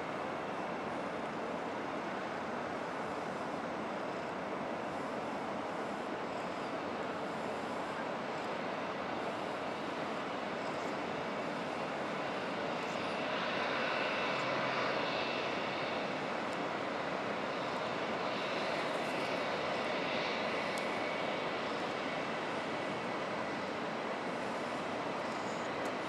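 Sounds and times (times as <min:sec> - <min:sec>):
airliner engines running: 0:00.0 - 0:26.0.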